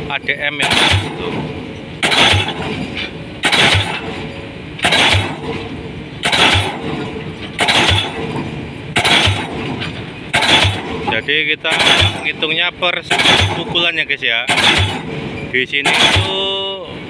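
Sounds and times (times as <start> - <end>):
steady machine rumble: 0.0 - 17.0
pile-driving hammer blows: 0.5 - 17.0.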